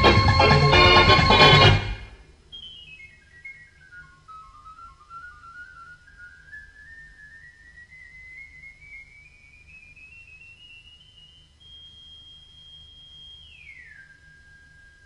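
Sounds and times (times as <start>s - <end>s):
whistle-like organ tone: 0.0s - 15.0s.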